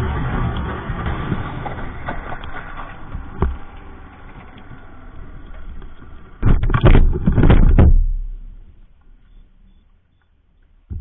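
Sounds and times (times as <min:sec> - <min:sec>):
wind noise: 0:00.0 - 0:08.8
motorcycle crashing impacts: 0:00.0 - 0:09.7
motorcycle running: 0:00.0 - 0:11.0.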